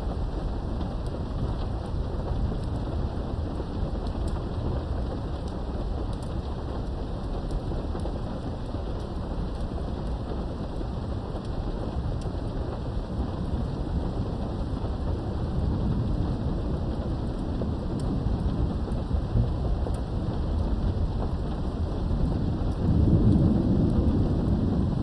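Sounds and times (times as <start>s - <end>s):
low rumble of thunder: 0.0s - 25.0s
steady rain: 0.0s - 25.0s.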